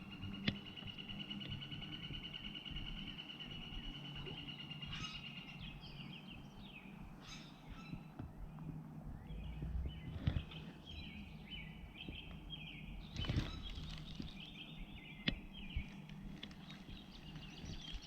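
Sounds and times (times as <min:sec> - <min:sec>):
birds singing: 0:00.0 - 0:18.0.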